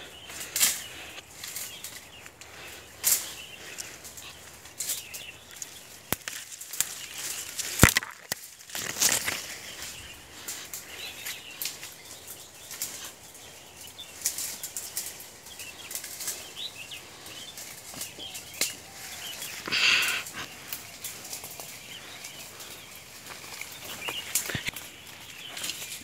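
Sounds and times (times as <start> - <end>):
dry twigs crackling: 0.0 - 26.0
leaves and branches rustling: 0.0 - 26.0.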